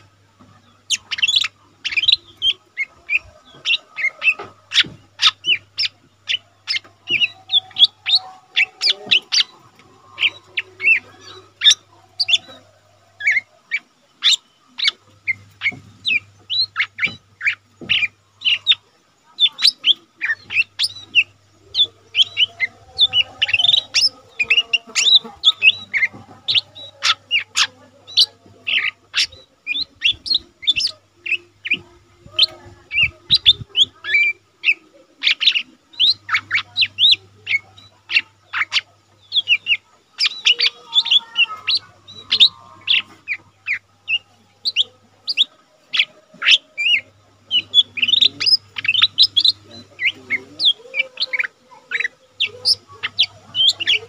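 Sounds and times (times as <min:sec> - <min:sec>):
bird singing high chirps: 0:00.0 - 0:54.0.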